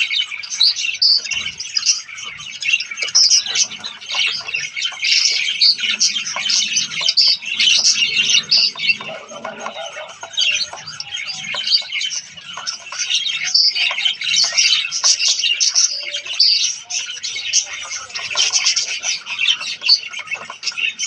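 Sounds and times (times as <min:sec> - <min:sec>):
finches chirping: 0:00.0 - 0:21.0.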